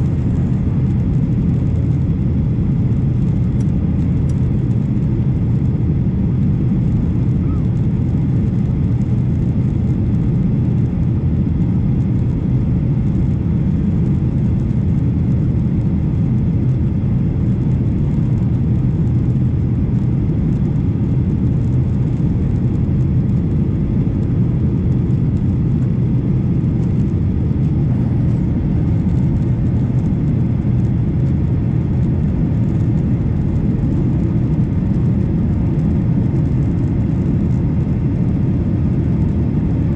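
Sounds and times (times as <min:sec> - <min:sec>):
jet engines and rushing air: 0:00.0 - 0:39.9.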